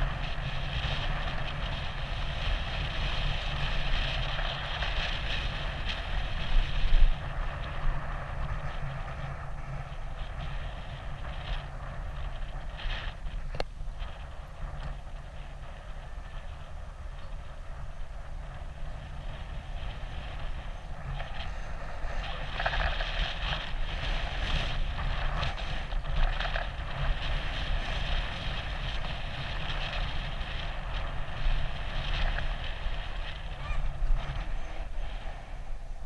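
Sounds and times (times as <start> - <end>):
rough scratchy noise: 0.0 - 35.9
bicycle ride rumble: 0.0 - 36.0
wind buffeting microphone: 0.0 - 36.0.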